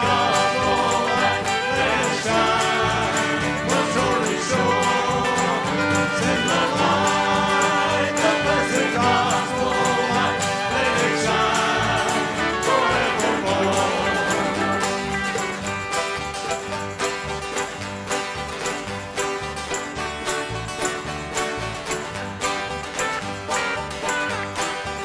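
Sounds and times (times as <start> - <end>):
bass: 0.0 - 25.0
fiddle melody: 0.0 - 25.0
strummed acoustic guitars: 0.0 - 25.0.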